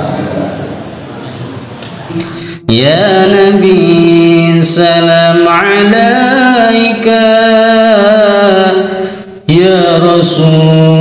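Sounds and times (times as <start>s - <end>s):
man chanting unaccompanied: 2.2s - 11.0s.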